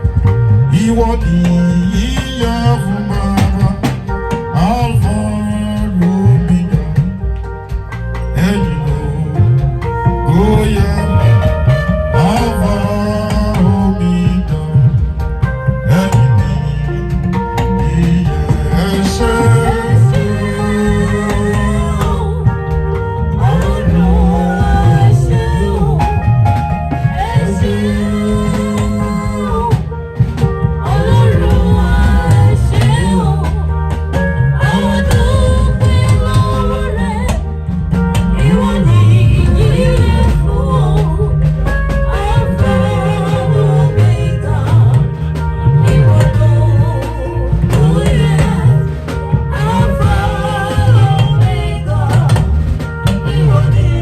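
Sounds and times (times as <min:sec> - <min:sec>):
bass: 0:00.0 - 0:54.0
drum kit: 0:00.0 - 0:54.0
person singing gospel song: 0:00.0 - 0:54.0.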